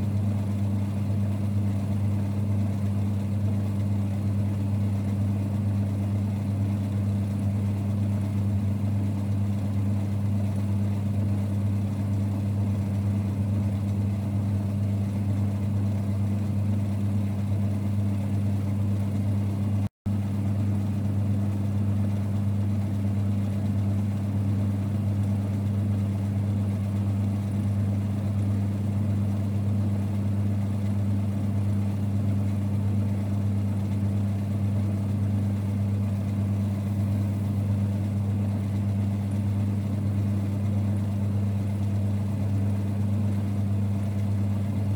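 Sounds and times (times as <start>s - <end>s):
lathe running with low hum: 0.0s - 44.9s.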